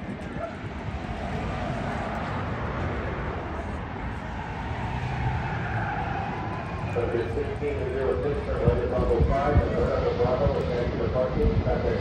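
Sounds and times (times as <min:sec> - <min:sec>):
jet engines rushing with whine: 0:00.0 - 0:12.0.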